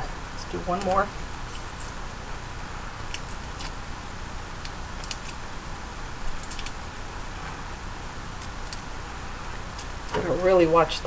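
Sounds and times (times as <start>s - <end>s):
low background hum: 0.0s - 11.0s
garlic skin crackling: 0.5s - 10.4s.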